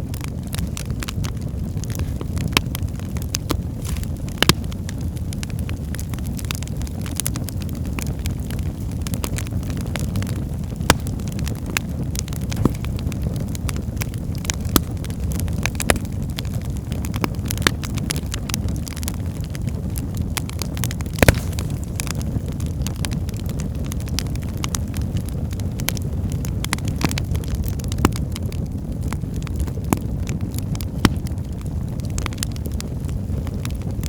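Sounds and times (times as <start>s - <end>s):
fire crackling and popping: 0.0s - 34.0s
fire low rumble: 0.0s - 34.0s.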